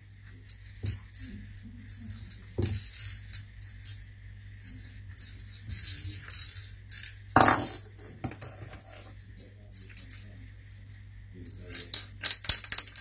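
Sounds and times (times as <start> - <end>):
small jingle bell jingling: 0.0 - 13.0.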